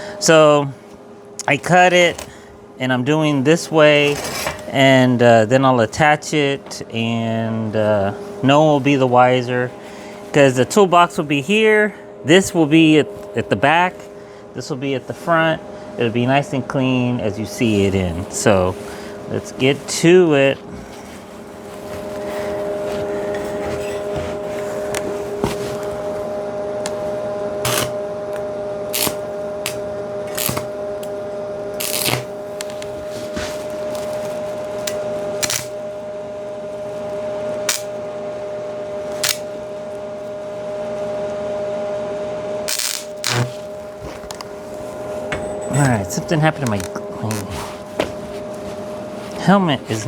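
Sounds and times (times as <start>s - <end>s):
welding equipment humming: 0.0s - 41.4s, 42.1s - 50.0s.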